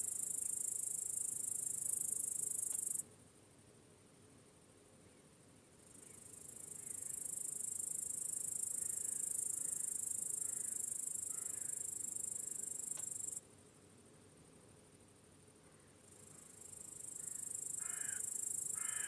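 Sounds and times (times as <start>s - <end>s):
crickets chirping: 0.0s - 3.1s, 4.7s - 19.0s.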